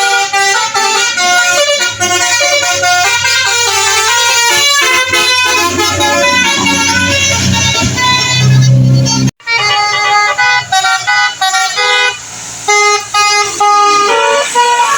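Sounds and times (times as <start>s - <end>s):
musical bus horn melody: 0.0s - 14.9s.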